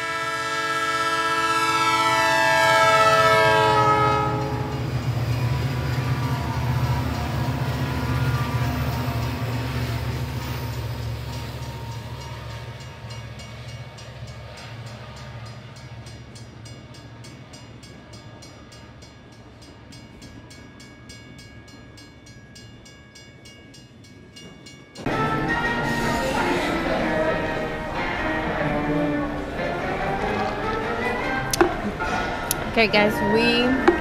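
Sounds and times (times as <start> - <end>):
ride train rumbling on track: 0.0 - 34.0.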